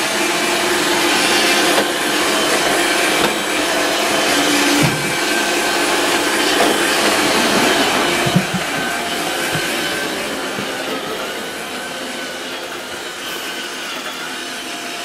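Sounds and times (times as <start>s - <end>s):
robot vacuum whirring hum: 0.0s - 15.0s.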